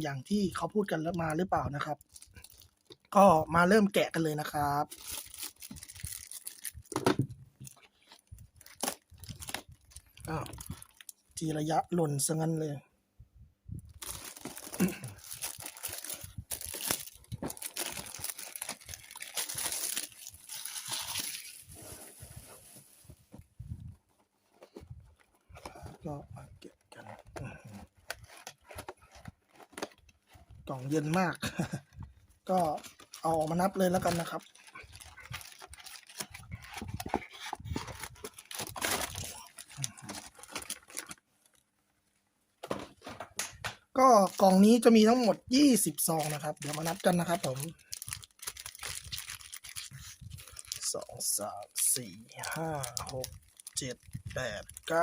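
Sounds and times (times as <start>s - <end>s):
packaging crinkling and rustling: 0.9s - 3.2s, 4.3s - 11.4s, 13.8s - 41.7s, 42.6s - 55.0s.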